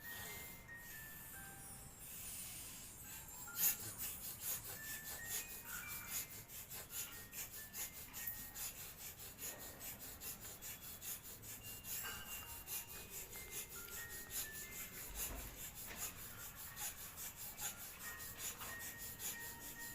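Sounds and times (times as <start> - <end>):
fast scraping rhythm: 2.2 - 19.9.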